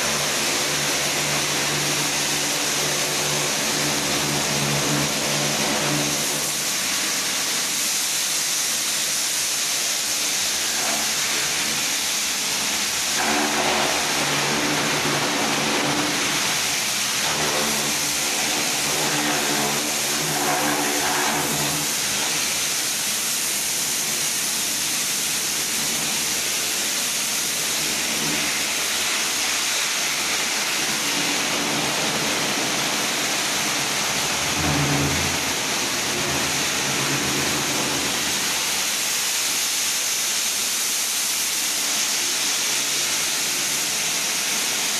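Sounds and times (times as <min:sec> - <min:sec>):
pressure washer pump humming: 0:00.0 - 0:44.9
water jet hissing: 0:00.0 - 0:44.9.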